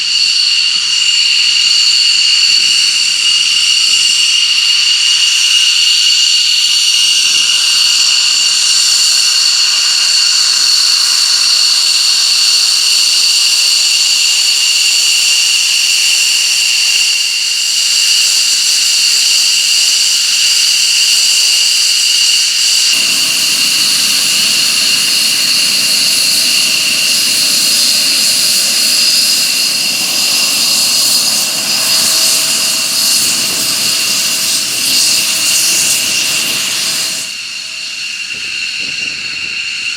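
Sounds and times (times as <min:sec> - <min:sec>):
jet engine whining and roaring: 0:00.0 - 0:39.9.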